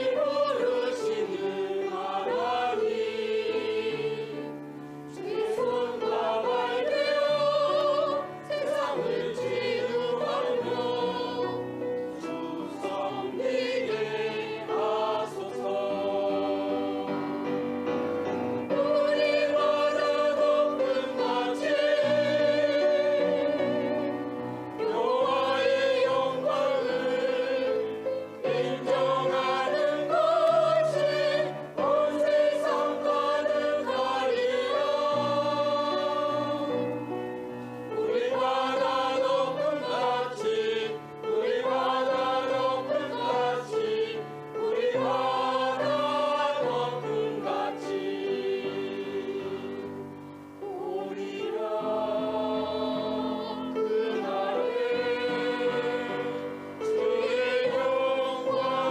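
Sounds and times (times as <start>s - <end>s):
choir singing in harmony: 0.0s - 58.9s.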